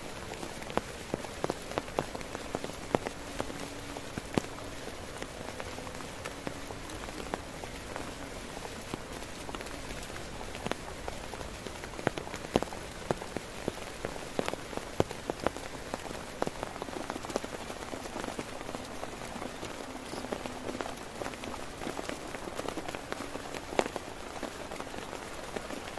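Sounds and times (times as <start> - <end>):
heavy rain on a tent: 0.0 - 25.9.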